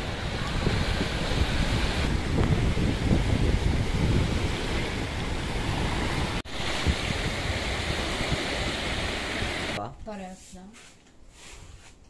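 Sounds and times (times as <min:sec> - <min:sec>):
small waves breaking on sand: 0:00.0 - 0:09.8
wind buffeting microphone: 0:00.0 - 0:09.8.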